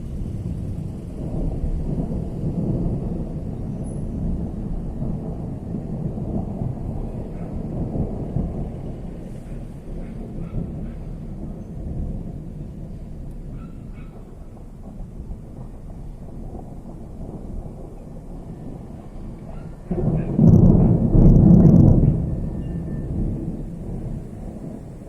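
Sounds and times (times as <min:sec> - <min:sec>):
rolling thunder: 0:00.0 - 0:25.0.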